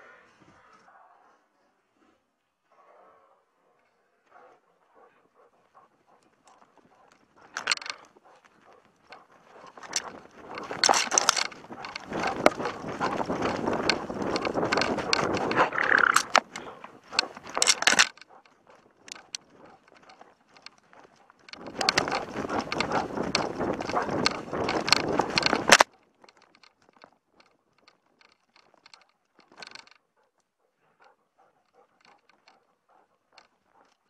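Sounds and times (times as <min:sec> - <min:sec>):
camera rattling against straps: 0:06.1 - 0:30.4, 0:31.0 - 0:34.0.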